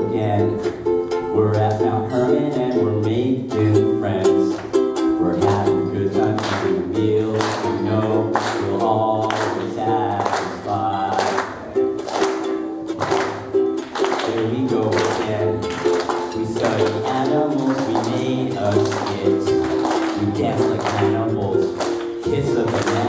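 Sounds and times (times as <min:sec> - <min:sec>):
man singing: 0:00.0 - 0:13.0, 0:14.0 - 0:23.0
ukulele strumming: 0:00.0 - 0:23.0.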